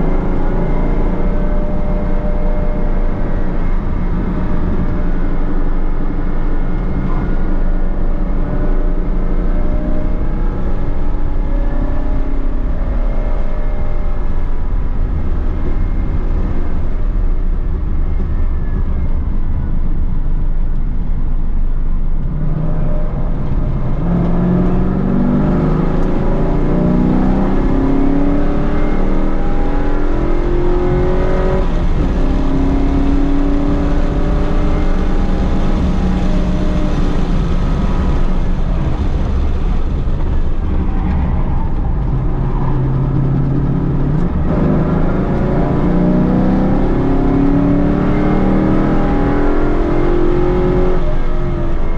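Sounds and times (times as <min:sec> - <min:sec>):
car engine accelerating: 0:00.0 - 0:51.9
road rumble: 0:00.0 - 0:51.9
wind noise: 0:00.0 - 0:51.9.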